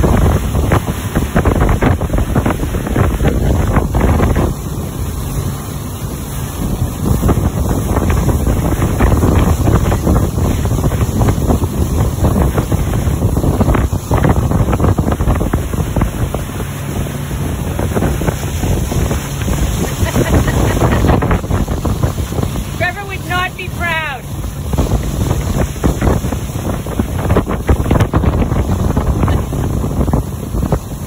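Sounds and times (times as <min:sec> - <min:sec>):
motorboat engine and rush: 0:00.0 - 0:31.0
wind buffeting microphone: 0:00.0 - 0:31.0.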